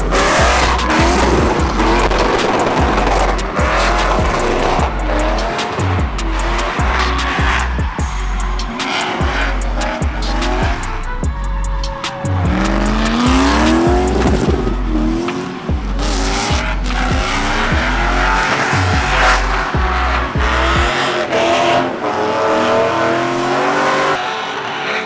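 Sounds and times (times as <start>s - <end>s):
music with heavy beat: 0.0s - 21.9s
car engine revving: 0.0s - 25.0s
tyres squealing: 0.0s - 25.0s.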